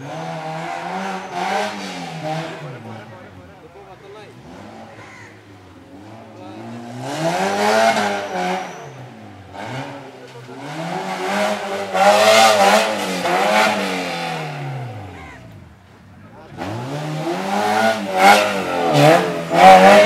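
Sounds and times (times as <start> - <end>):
engine revving hard: 0.0 - 3.4, 4.2 - 5.3, 6.0 - 15.6, 16.4 - 20.0.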